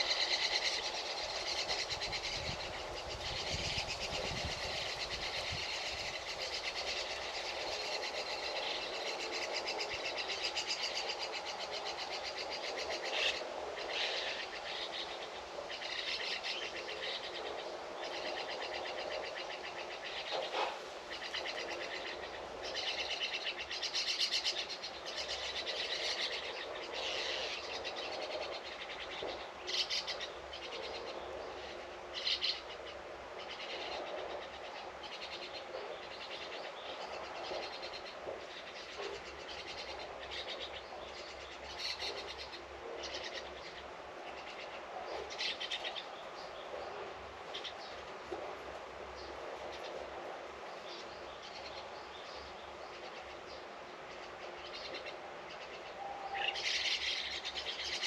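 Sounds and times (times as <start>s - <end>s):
birds singing and chirping: 0.0s - 58.0s
steady background hiss: 0.0s - 58.0s.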